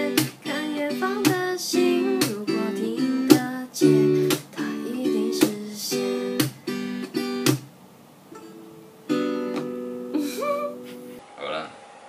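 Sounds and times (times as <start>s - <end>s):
acoustic guitar strumming: 0.0s - 7.7s, 8.3s - 11.2s.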